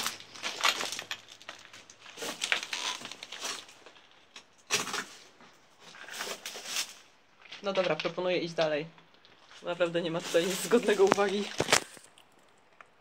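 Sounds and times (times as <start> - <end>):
footsteps crunching on rubble: 0.0 - 4.3, 4.9 - 12.4.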